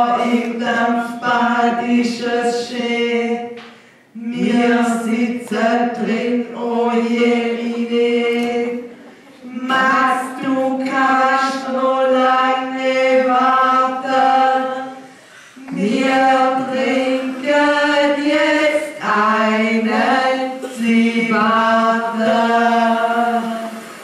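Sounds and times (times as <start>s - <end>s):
voices singing together: 0.0s - 24.0s.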